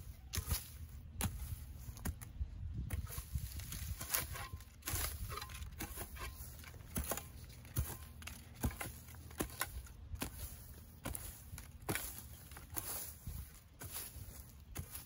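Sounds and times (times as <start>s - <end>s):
dry grass rustling and tearing: 0.0s - 15.0s
hand tool scraping soil: 0.0s - 15.0s.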